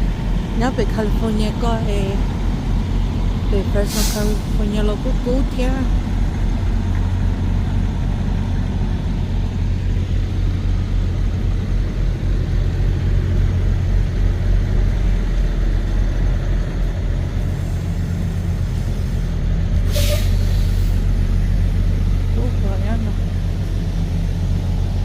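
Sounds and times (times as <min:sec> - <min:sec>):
road noise: 0:00.0 - 0:25.0
truck engine drone: 0:00.0 - 0:25.0.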